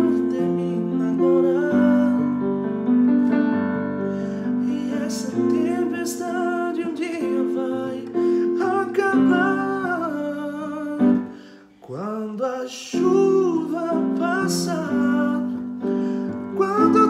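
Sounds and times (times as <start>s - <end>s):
man singing a slow ballad: 0.0s - 2.6s, 4.4s - 17.0s.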